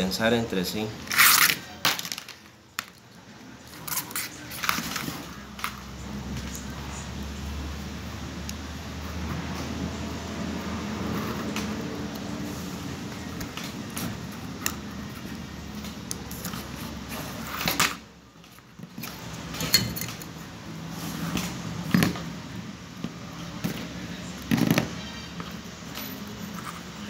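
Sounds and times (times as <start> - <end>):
steady background hum: 0.0 - 27.0.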